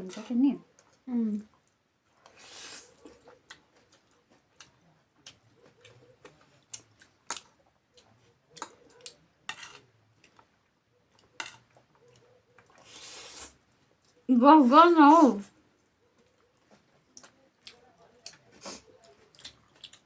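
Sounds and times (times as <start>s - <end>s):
chewing: 0.2s - 14.3s, 15.5s - 20.0s.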